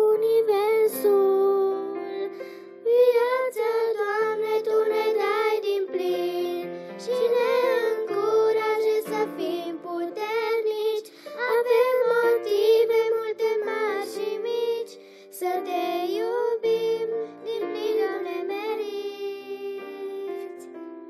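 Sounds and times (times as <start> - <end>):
girls singing together: 2.9 - 20.4.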